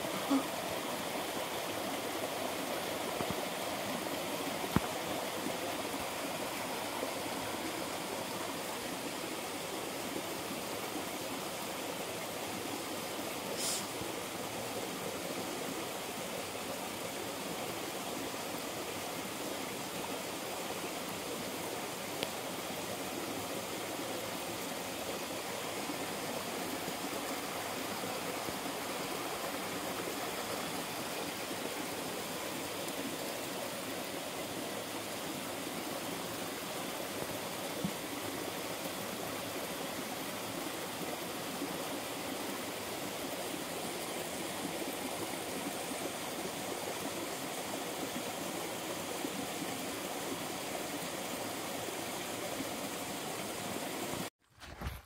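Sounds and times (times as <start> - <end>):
water rushing over rocks: 0.0 - 54.3.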